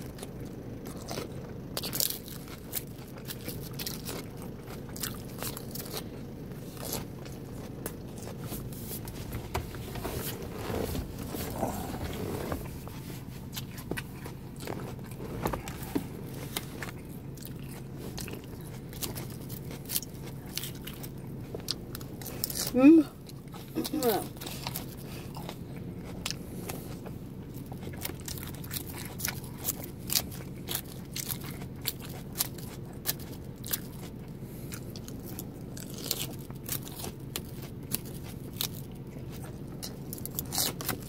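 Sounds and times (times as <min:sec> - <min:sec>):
lettuce crunching: 0:00.0 - 0:41.0
steady low hum: 0:00.0 - 0:41.0.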